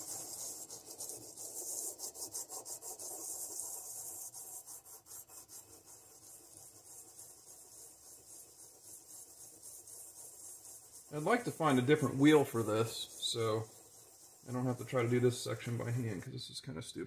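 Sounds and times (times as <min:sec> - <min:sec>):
sandpaper scratching on metal: 0:00.0 - 0:16.2.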